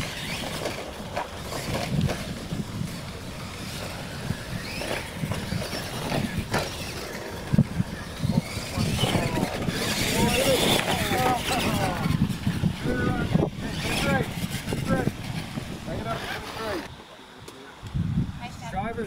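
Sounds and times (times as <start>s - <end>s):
rc trucks rumbling: 0.0s - 19.0s.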